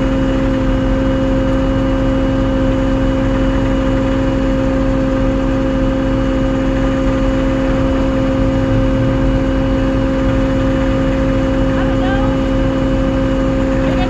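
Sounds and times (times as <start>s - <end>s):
tow truck engine humming: 0.0s - 14.0s.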